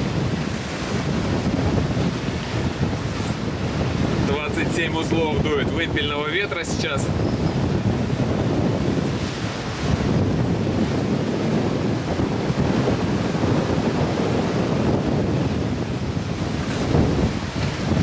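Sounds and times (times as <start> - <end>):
rush of choppy sea: 0.0 - 18.0
wind buffeting microphone: 0.0 - 18.0.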